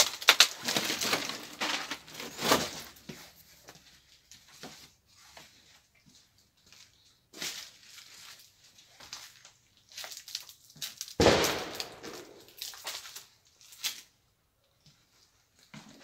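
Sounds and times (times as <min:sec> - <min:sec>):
footsteps crunching over debris: 0:00.0 - 0:14.2.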